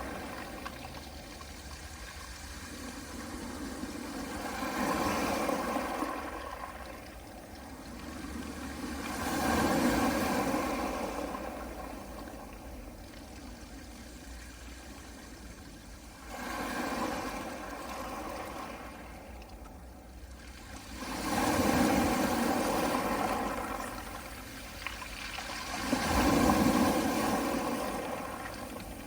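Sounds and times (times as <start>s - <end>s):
waves washing onto pebble beach: 0.0s - 13.0s, 16.1s - 19.3s, 20.8s - 29.0s.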